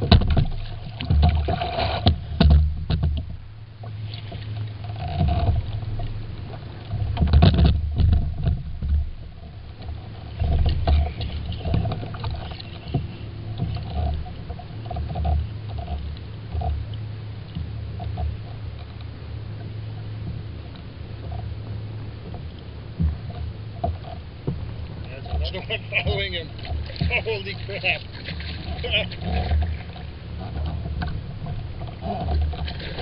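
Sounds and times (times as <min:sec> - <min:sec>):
knocks and splashes: 0:00.0 - 0:16.9, 0:22.3 - 0:33.0
water sloshing against kayak: 0:00.0 - 0:33.0.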